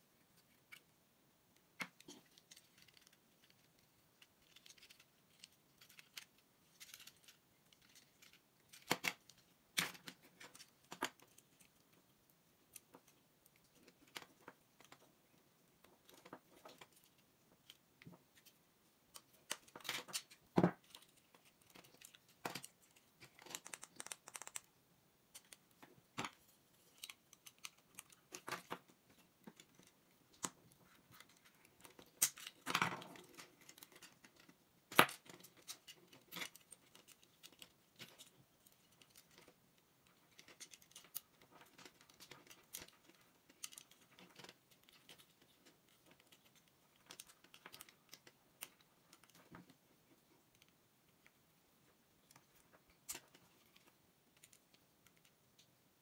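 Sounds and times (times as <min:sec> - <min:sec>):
clicks and scrapes of plastic parts: 0:01.6 - 0:12.1, 0:12.7 - 0:24.7, 0:25.3 - 0:55.8.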